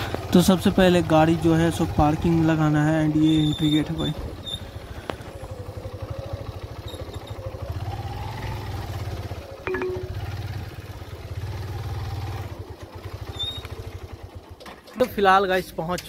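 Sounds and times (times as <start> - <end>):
motor scooter engine running: 0.0 - 14.9.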